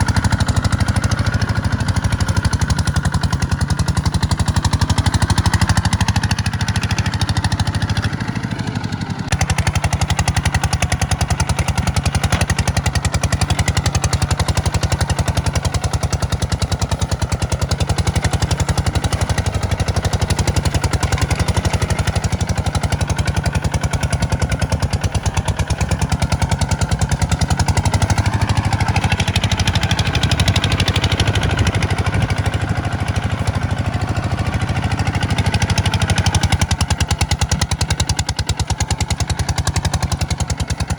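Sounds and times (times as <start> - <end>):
tractor diesel engine knocking: 0.0 - 40.9.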